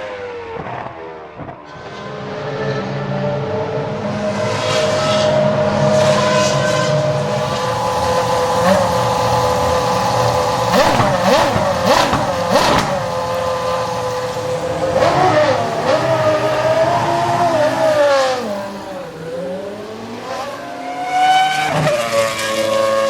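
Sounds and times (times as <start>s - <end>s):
racing car engine revving: 0.0s - 23.0s.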